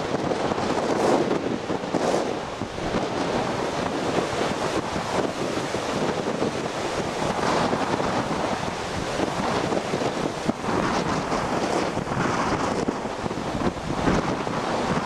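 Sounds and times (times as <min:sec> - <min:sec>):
heavy surf breaking: 0:00.0 - 0:15.0
wind buffeting microphone: 0:00.0 - 0:15.0.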